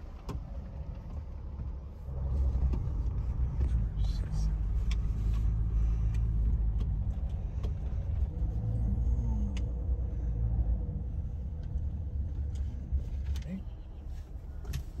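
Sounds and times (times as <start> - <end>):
road rumble inside van: 0.0 - 15.0.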